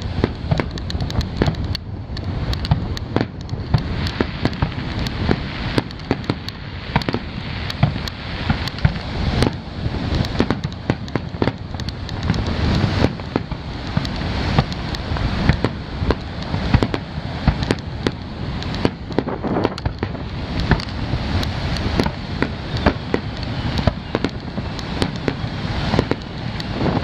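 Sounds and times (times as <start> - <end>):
booms and crackle: 0.0 - 27.0
firework shells bursting: 0.0 - 27.0.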